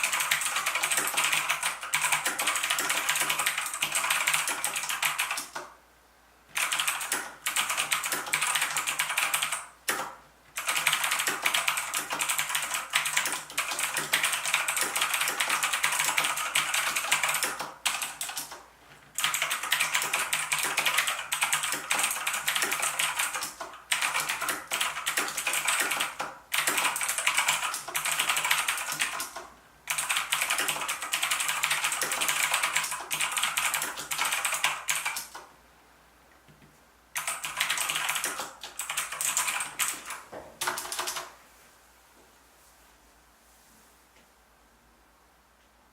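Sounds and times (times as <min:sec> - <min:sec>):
mechanical keyboard typing: 0:00.0 - 0:05.7, 0:06.6 - 0:18.6, 0:19.2 - 0:35.5, 0:37.2 - 0:41.3.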